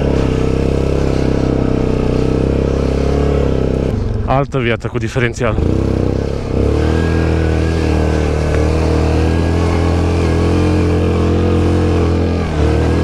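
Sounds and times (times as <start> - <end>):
atv engine under load: 0.0 - 13.0.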